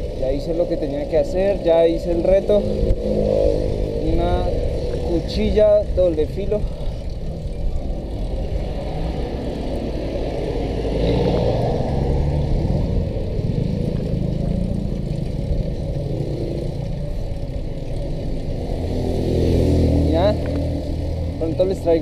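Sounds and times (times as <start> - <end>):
car engines running: 0.0 - 22.0
road noise: 0.0 - 22.0
wind rumble: 0.0 - 22.0.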